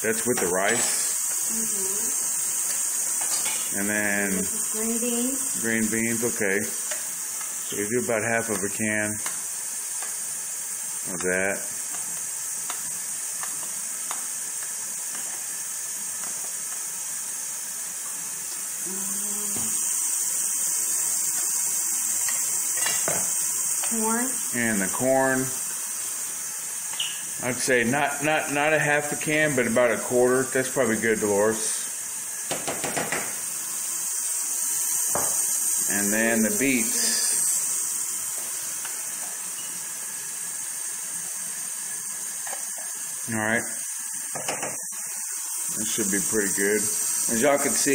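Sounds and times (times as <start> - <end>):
water boiling in a pot: 0.0 - 47.9.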